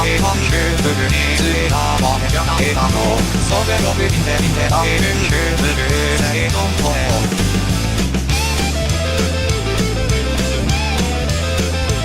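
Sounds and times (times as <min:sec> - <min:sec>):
rock song with synthetic vocals: 0:00.0 - 0:12.0.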